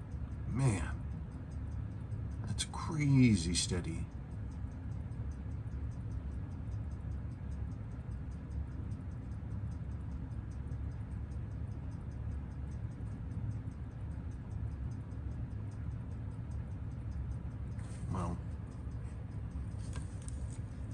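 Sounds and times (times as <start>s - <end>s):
low steady hum: 0.0s - 20.9s
watch movement ticking: 0.0s - 20.9s.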